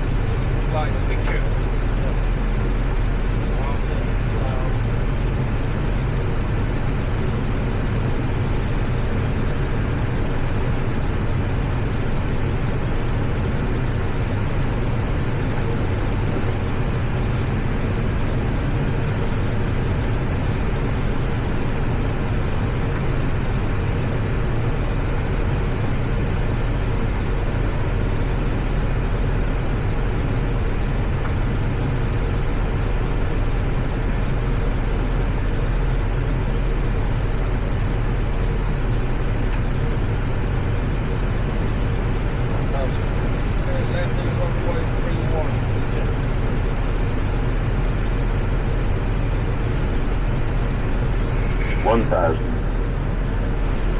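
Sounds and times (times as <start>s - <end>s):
deep even hum: 0.0s - 53.9s.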